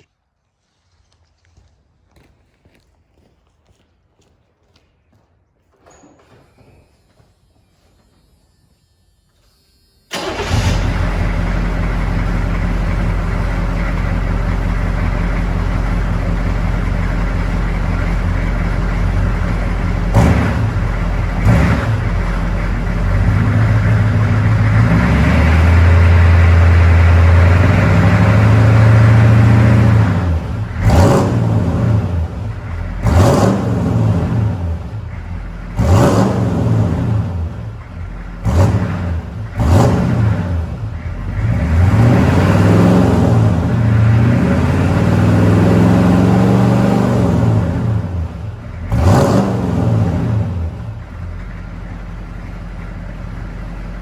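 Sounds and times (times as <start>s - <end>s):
diesel engine idling and revving: 9.8s - 54.0s.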